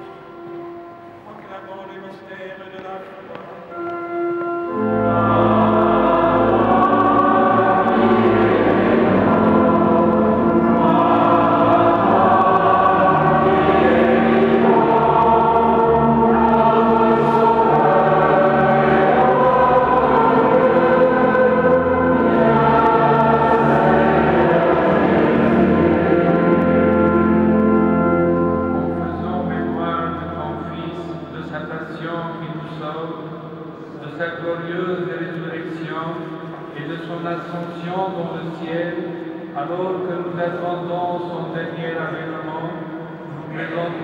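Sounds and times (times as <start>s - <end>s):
choir singing liturgical music: 0.0s - 44.0s.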